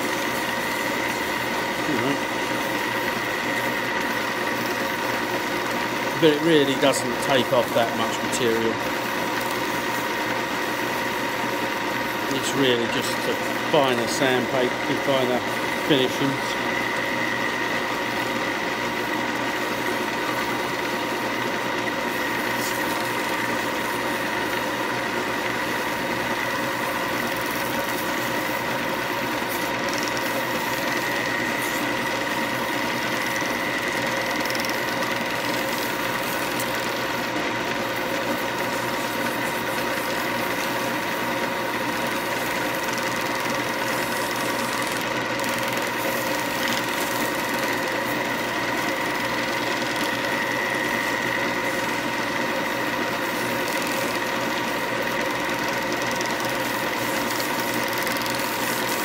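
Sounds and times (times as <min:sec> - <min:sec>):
wood lathe motor whining: 0:00.0 - 0:59.0.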